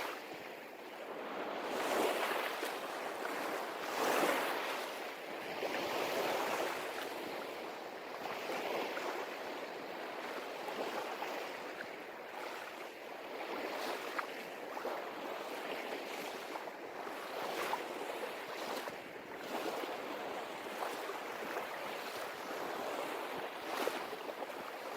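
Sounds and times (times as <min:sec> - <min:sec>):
waves breaking on a beach: 0:00.0 - 0:24.9.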